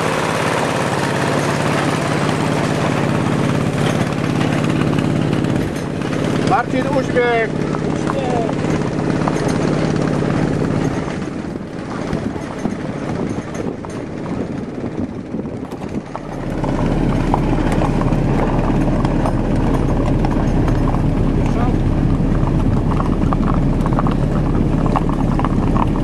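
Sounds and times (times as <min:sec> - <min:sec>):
horse hooves walking: 0:00.0 - 0:26.0
steady low rumble: 0:00.0 - 0:26.0.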